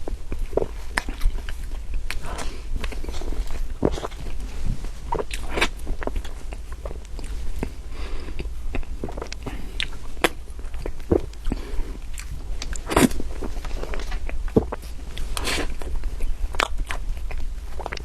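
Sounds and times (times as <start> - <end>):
chewing cake: 0.0 - 18.0
steady low hum: 0.0 - 18.0.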